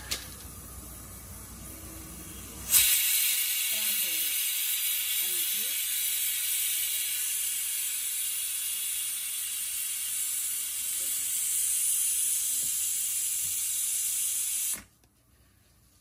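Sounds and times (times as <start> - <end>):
steady high hiss: 0.0 - 14.9.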